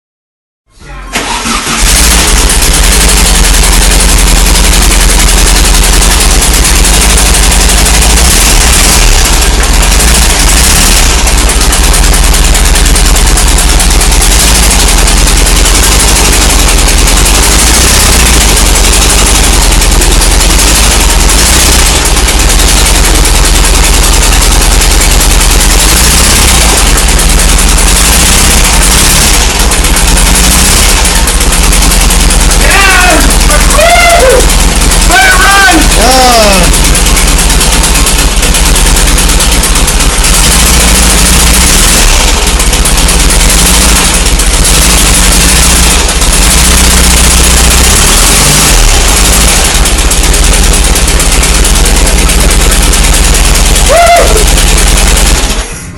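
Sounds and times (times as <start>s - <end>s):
air-cooled car engine running: 1.1s - 55.9s.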